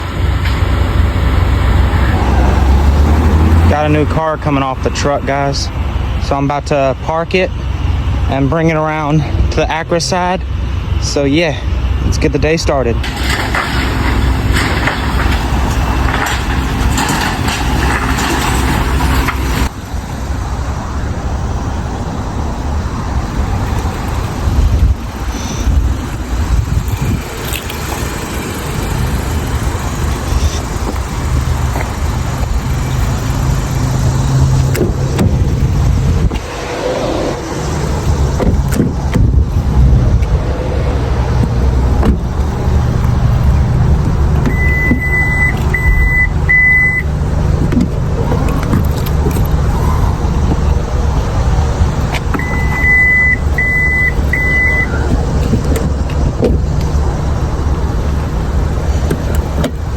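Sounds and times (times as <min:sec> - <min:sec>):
car driving with low rumble: 0:00.0 - 0:59.9.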